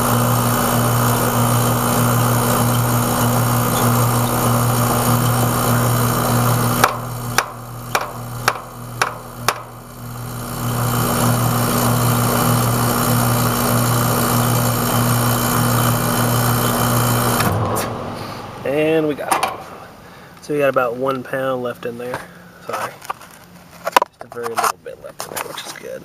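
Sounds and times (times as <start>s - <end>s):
condensing unit humming: 0.0s - 24.1s.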